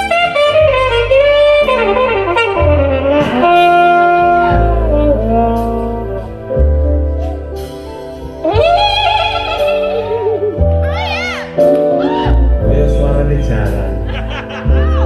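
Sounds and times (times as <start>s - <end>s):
horn solo melody: 0.0s - 14.0s
held bass notes: 0.0s - 15.0s
live band music: 0.0s - 15.0s.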